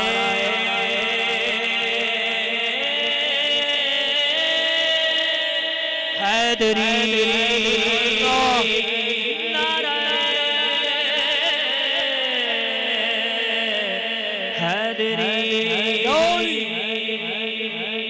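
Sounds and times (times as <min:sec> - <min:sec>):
man singing through microphone: 0:00.0 - 0:18.0.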